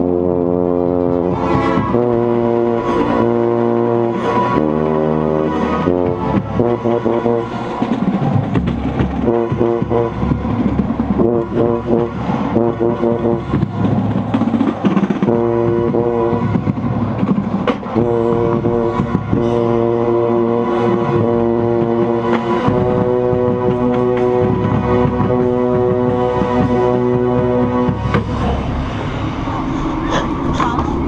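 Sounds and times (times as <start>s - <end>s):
brass line playing loud: 0.0s - 30.6s
tuba low notes: 0.0s - 31.0s.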